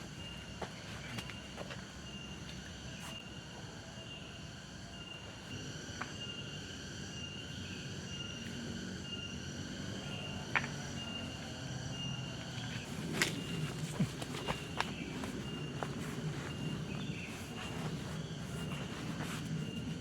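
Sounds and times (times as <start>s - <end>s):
insects chorus shrill tones: 1.3s - 20.0s.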